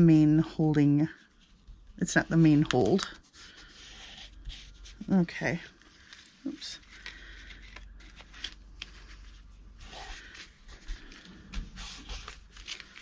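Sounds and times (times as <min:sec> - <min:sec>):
low steady hum: 0:00.0 - 0:13.0
paper rustling: 0:01.1 - 0:13.0.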